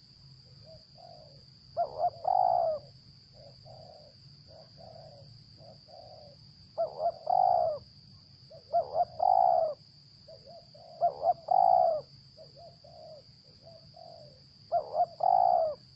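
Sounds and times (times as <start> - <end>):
doves cooing: 0.6 - 7.8, 8.5 - 15.9.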